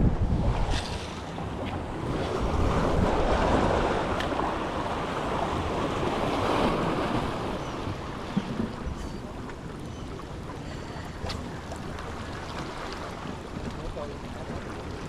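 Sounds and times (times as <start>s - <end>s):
waves surging and washing: 0.0s - 15.0s
wind buffeting microphone: 0.0s - 15.0s.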